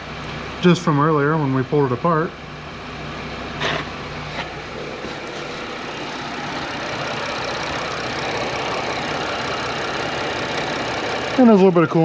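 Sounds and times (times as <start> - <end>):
electric radiator cooling fans: 0.0 - 12.0
car engine idling: 2.4 - 12.0.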